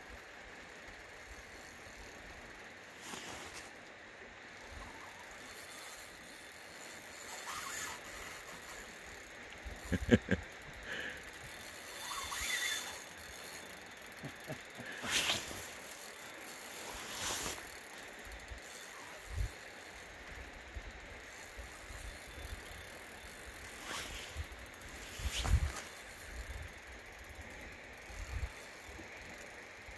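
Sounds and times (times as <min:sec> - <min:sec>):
fishing reel clicking and whirring: 0:00.0 - 0:29.9.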